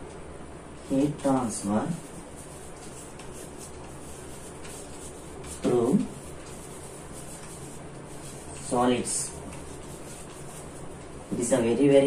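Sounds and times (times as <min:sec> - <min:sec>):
chalk scratching on a blackboard: 0:00.8 - 0:11.2.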